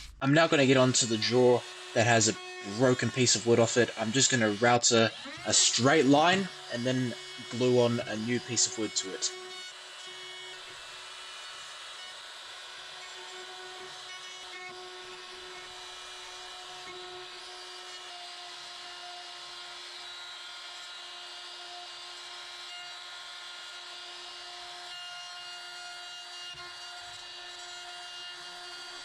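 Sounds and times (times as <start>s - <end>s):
wood router whining: 0.0s - 29.0s.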